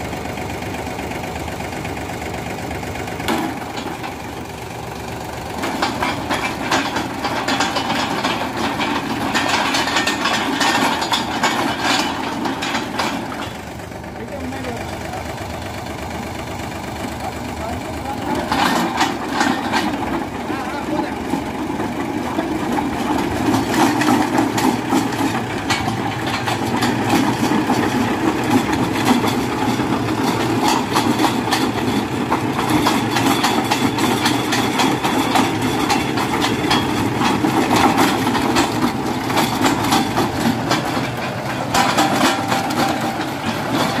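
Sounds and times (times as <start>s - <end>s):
tractor diesel engine running: 0.0s - 44.0s
auger rattling and knocking: 1.6s - 44.0s.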